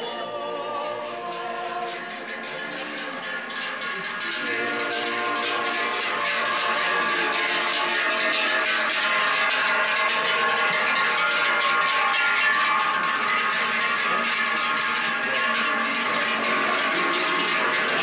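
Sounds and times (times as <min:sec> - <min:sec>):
cowbells clanging: 0:00.0 - 0:18.0.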